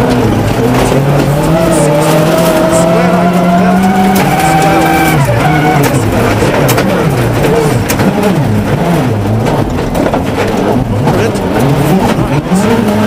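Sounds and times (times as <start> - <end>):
gravel rattling against car: 0.0 - 13.0
rally car engine revving: 0.0 - 13.0.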